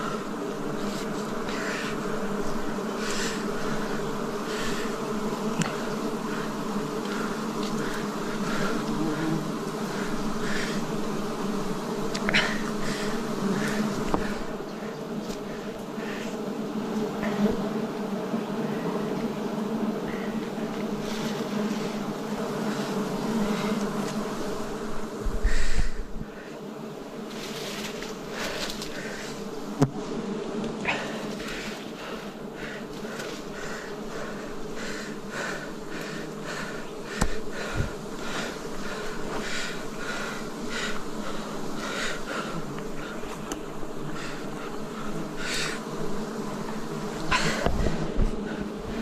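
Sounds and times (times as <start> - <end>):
honeybees buzzing: 0.0 - 49.0.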